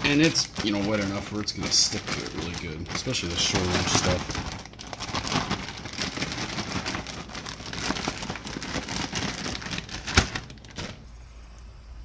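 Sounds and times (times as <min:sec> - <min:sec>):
plastic bag crinkling: 0:00.0 - 0:11.1.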